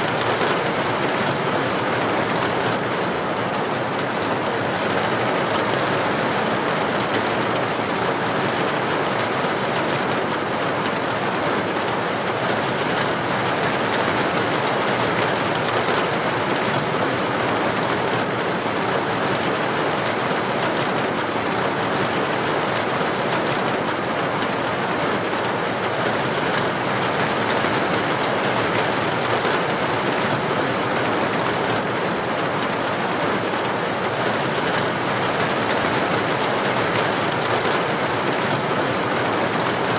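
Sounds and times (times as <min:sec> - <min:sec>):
heavy rain on street: 0:00.0 - 0:39.9.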